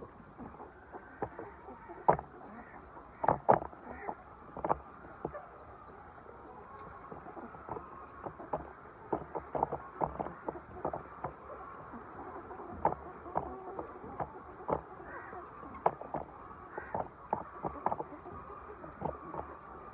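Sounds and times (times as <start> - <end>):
chickens tapping and clicking: 0.4 - 19.9.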